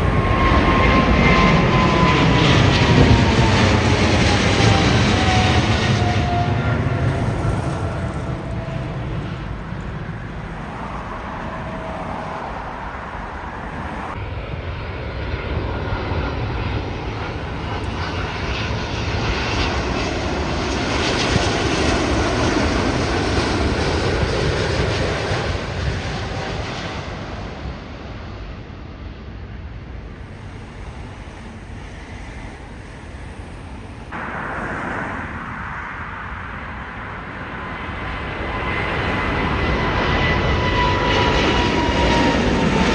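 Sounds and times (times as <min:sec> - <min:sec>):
jet airliner passing: 0:00.0 - 0:42.9.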